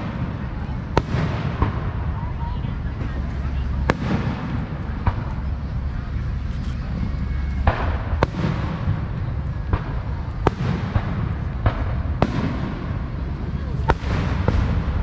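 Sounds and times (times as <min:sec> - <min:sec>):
fireworks bangs: 0:00.0 - 0:15.0
low rumble: 0:00.0 - 0:15.0.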